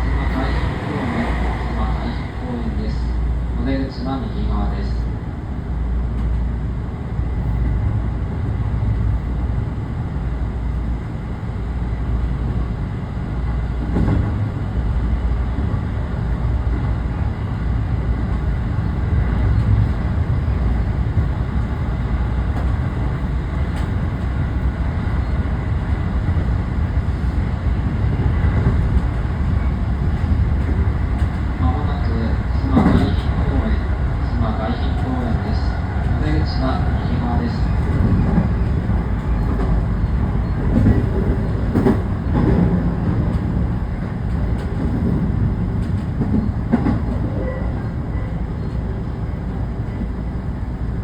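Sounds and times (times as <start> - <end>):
train running low rumble: 0.0 - 51.0.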